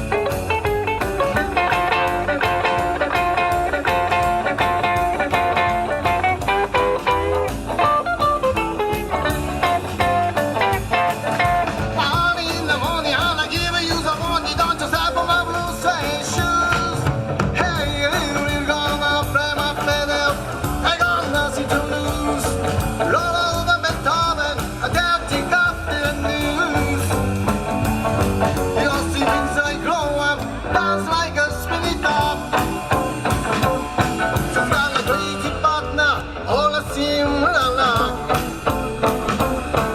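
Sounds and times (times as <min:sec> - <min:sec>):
live rock and roll band: 0:00.0 - 0:39.9.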